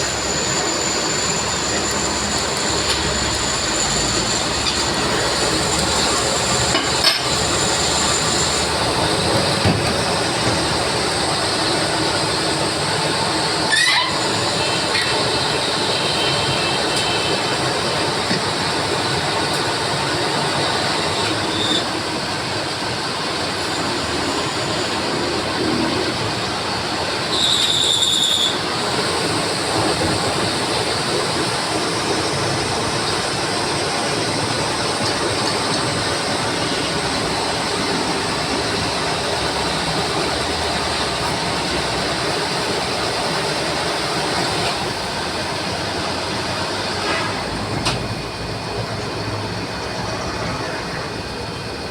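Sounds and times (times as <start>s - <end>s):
high-pitched squeal: 0.0s - 22.2s, 23.4s - 45.7s
lathe machining metal: 0.0s - 51.9s.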